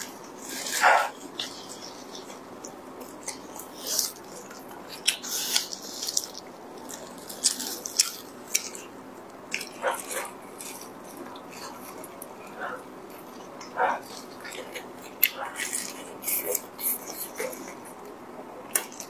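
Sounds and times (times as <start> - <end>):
biting and chewing: 0.0 - 19.0.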